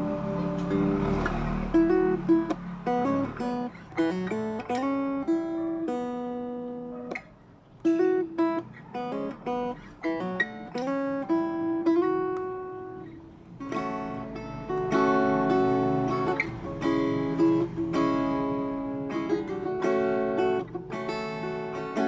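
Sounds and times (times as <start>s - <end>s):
acoustic guitar picked melody: 0.0s - 22.0s.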